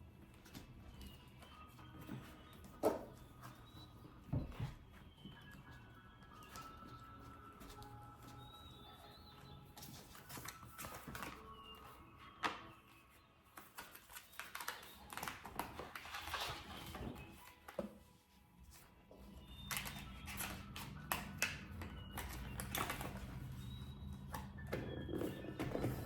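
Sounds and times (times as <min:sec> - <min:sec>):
soft background music: 0:00.0 - 0:26.0.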